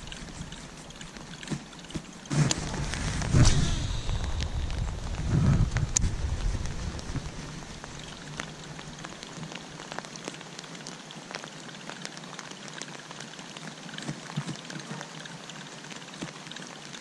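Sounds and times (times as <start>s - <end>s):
raindrops ticking close by: 0.0s - 3.3s, 3.9s - 17.0s
steady rain on a pond: 0.0s - 17.0s.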